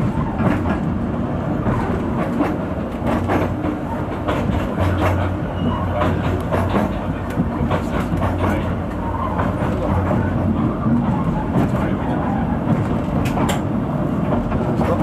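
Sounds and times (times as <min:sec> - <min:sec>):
train running rumble: 0:00.0 - 0:15.0
train wheels clicking over rail joints: 0:00.1 - 0:15.0.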